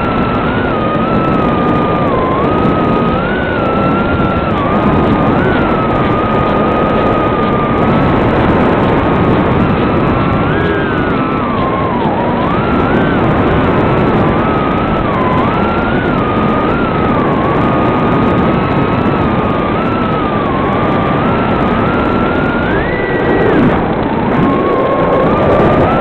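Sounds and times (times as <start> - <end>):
drone motors buzzing whine: 0.0 - 26.0
heavy rushing noise: 0.0 - 26.0.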